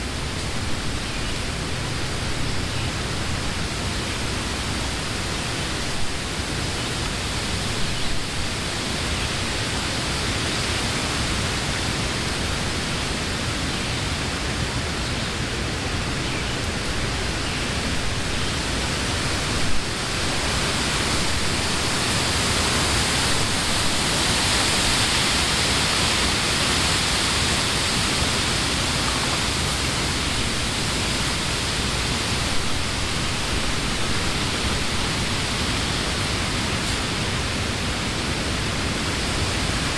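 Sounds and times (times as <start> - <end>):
wind rustling leaves: 0.0 - 39.9.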